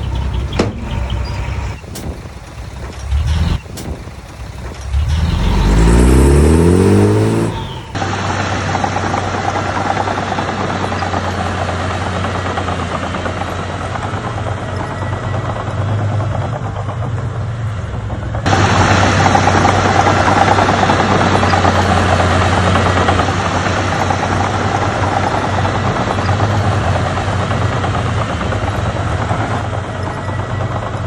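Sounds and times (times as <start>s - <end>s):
diesel engine revving and droning: 0.0s - 31.0s.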